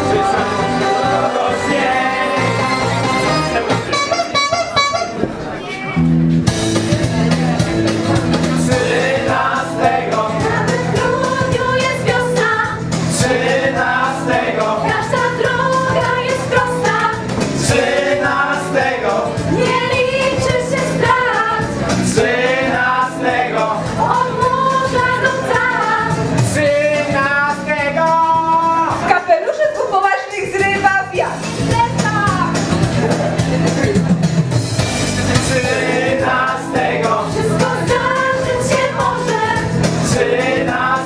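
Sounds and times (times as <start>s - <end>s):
instrumental backing with beat: 0.0s - 29.2s, 29.8s - 41.0s.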